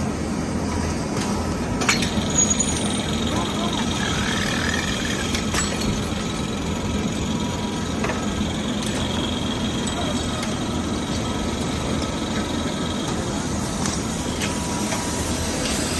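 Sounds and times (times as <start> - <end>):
lathe machine humming: 2.1 - 15.9.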